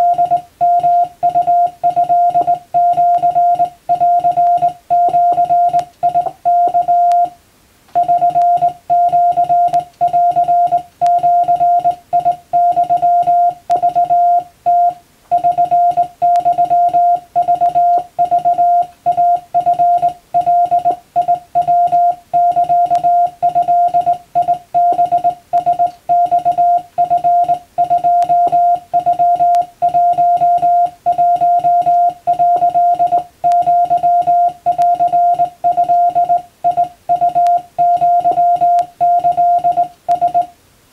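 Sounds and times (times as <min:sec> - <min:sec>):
morse code tone keyed by hand: 0:00.0 - 0:07.4, 0:08.0 - 0:40.5.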